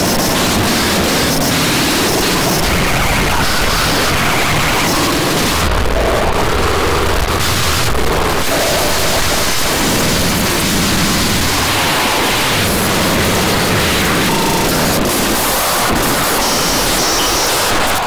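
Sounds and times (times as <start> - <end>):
harsh digital noise music: 0.0 - 18.0.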